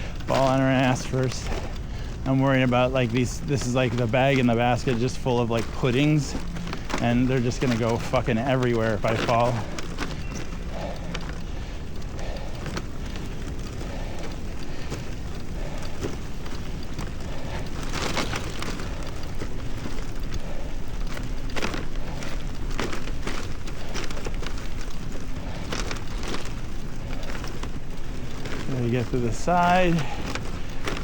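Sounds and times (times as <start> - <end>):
bike tyres rolling through slush: 0.0 - 31.0.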